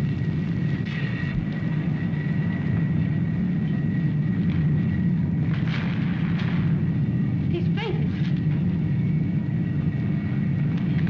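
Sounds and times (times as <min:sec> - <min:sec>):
faint thin whine: 0:00.0 - 0:11.0.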